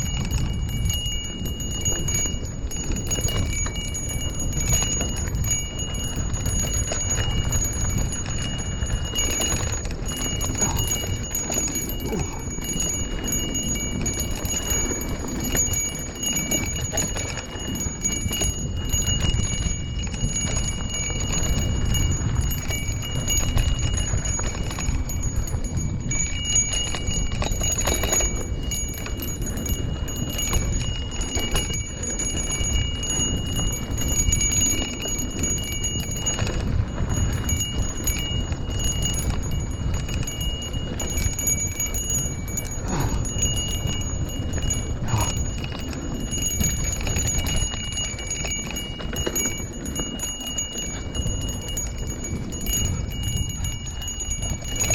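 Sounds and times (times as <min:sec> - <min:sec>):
bicycle bell ringing: 0:00.0 - 0:54.9
wind and riding rumble: 0:00.0 - 0:54.9.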